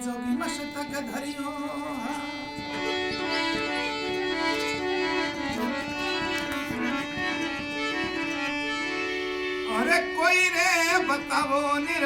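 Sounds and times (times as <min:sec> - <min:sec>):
reedy melody of held notes: 0:00.0 - 0:11.6.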